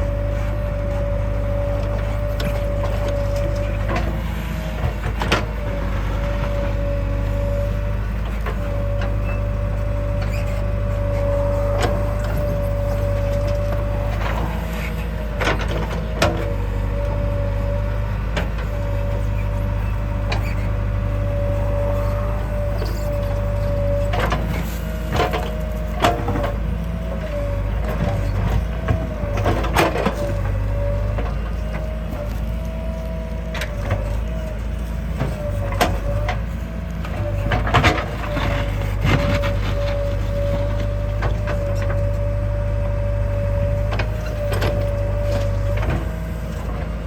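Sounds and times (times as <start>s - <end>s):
heavy diesel machinery running: 0.0s - 47.0s.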